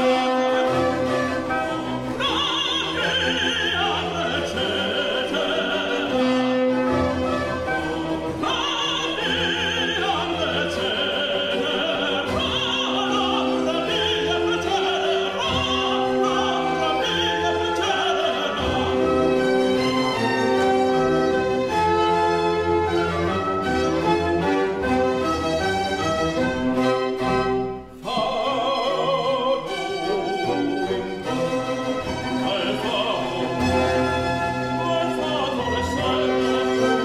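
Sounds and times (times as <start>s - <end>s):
classical orchestra: 0.0s - 37.0s
operatic singing with vibrato: 0.0s - 37.0s.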